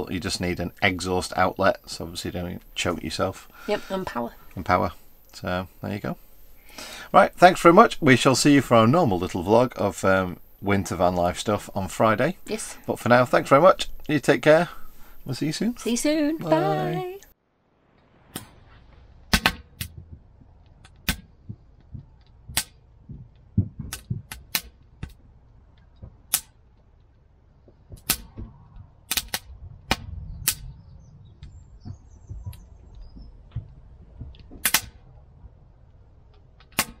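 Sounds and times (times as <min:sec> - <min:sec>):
fire crackling and popping: 0:00.0 - 0:37.0.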